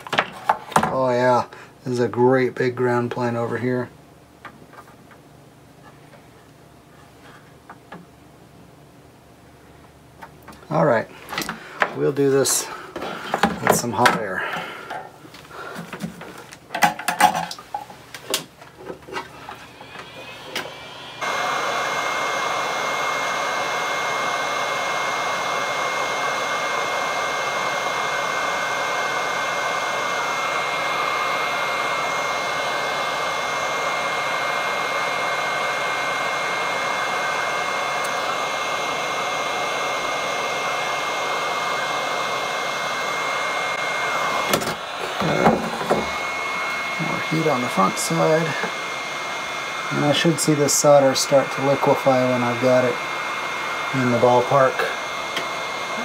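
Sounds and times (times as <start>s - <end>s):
hot-air gun fan hiss and whine: 0.0s - 56.0s.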